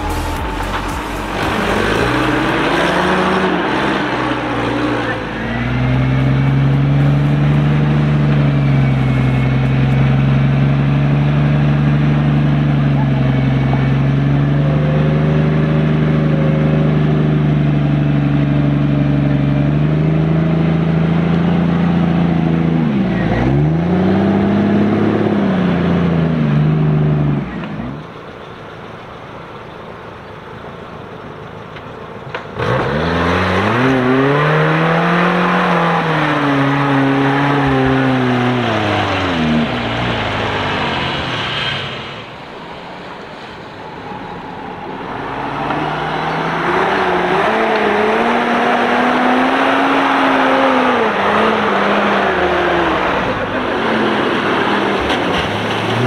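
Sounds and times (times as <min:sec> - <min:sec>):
engine revving up and down: 0:00.0 - 0:28.0, 0:32.4 - 0:42.6, 0:44.7 - 0:56.0
engine revving in mud: 0:00.0 - 0:28.1, 0:32.3 - 0:42.4, 0:45.0 - 0:56.0.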